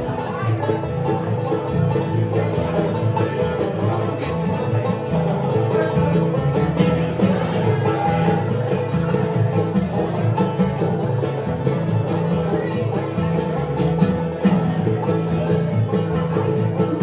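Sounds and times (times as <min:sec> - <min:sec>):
banjo picking: 0:00.0 - 0:17.0
bluegrass band playing: 0:00.0 - 0:17.0.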